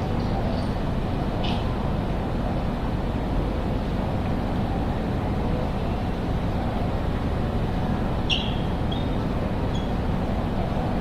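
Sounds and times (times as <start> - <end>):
station hall rumble: 0.0 - 11.0.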